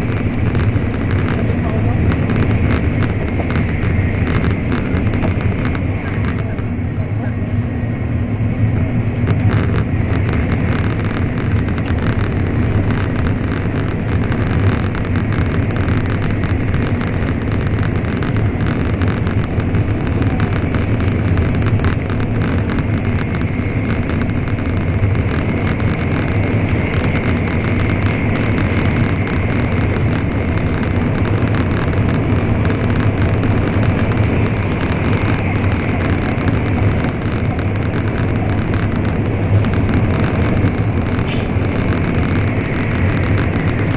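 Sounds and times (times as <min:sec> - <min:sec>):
train cabin running noise: 0:00.0 - 0:43.9.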